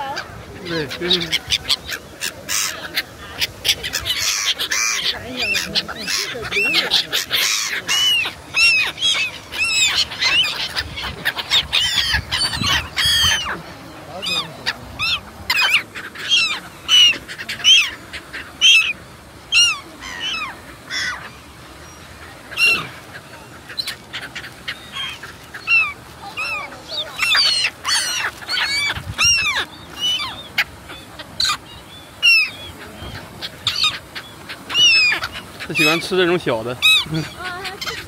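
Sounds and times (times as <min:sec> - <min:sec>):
gulls calling: 0:00.0 - 0:38.0.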